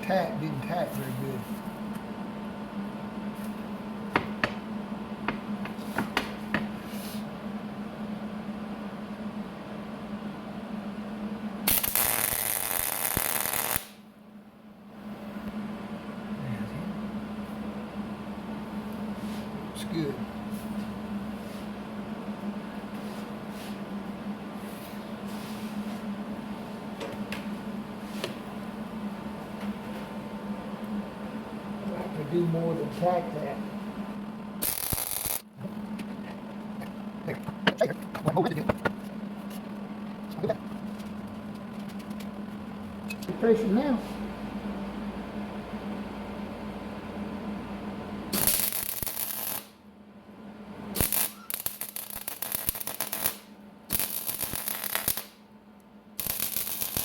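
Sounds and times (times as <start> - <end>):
low hum of shop equipment: 0.0 - 57.0.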